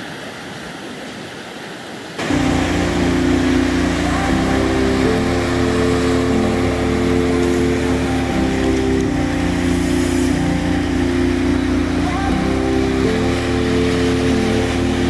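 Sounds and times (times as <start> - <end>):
rushing surf: 0.0 - 15.0
background music chords over bass: 2.2 - 15.0.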